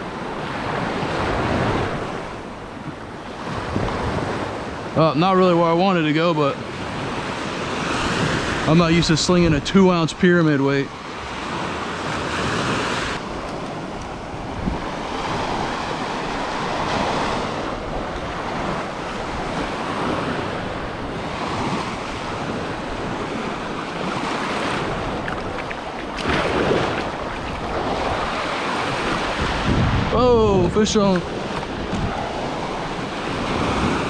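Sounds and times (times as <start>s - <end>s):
wind buffeting microphone: 0.0s - 5.0s, 6.0s - 34.0s
surf breaking on beach: 0.0s - 34.0s.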